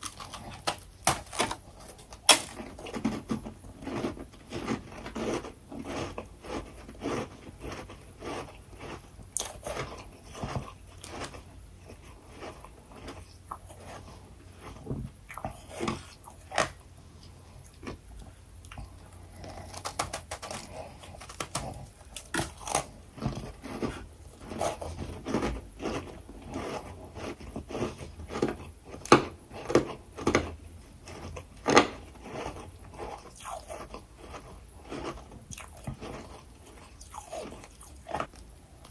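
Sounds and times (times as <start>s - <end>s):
person chewing crunchy frost: 0.0s - 38.9s.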